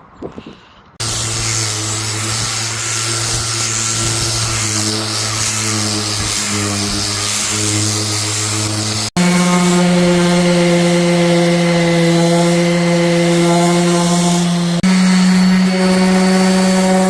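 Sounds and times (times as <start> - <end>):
electric sander on wood: 1.0 - 17.0.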